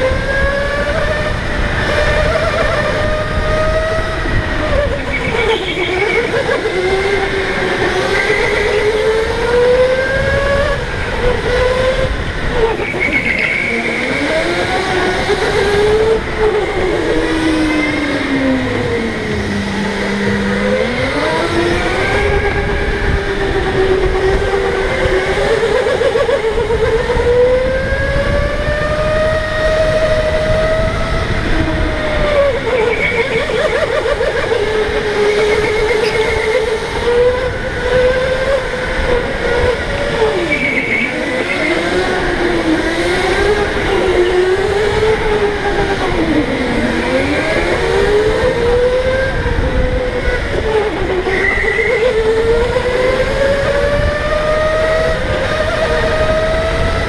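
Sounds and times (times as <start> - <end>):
electric go-kart motor whining: 0.0 - 57.0.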